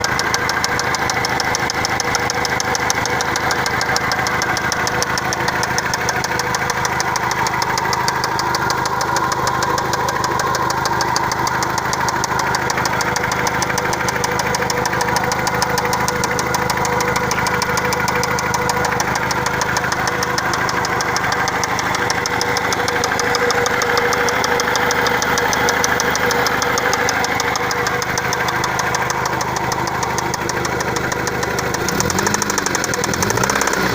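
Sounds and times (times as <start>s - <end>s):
car engine running: 0.0s - 33.9s
rapid engine knocking: 0.0s - 33.9s.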